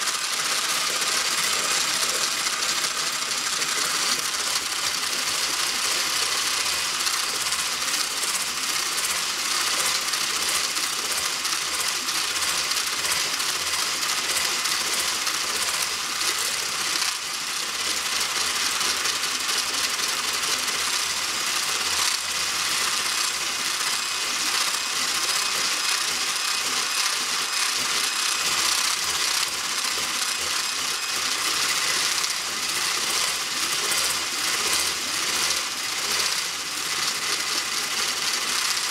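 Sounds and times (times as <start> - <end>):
electric mixer running: 0.0 - 38.9.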